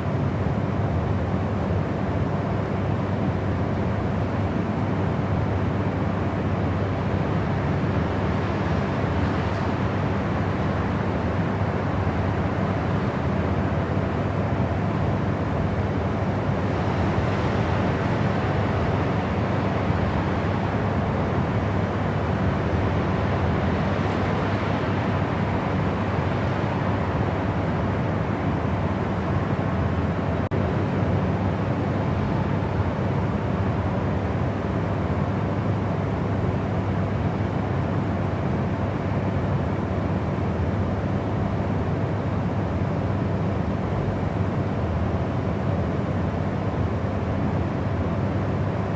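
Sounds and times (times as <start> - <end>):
steady white noise: 0.0 - 48.9.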